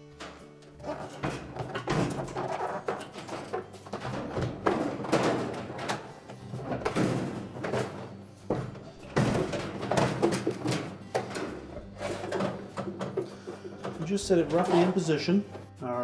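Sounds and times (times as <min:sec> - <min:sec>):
plastic tub knocking and scraping metal: 0:00.0 - 0:15.8.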